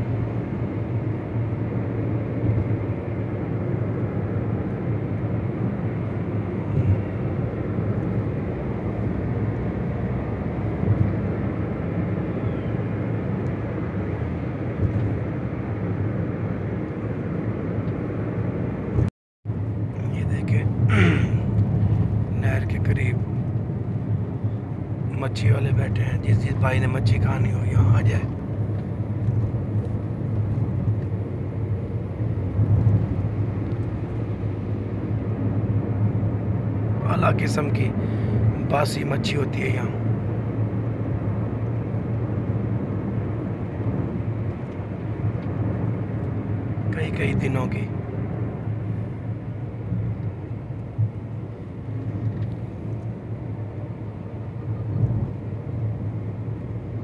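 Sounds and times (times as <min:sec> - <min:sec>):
car engine rumble inside cabin: 0:00.0 - 0:57.0
tyres on road: 0:00.0 - 0:57.0.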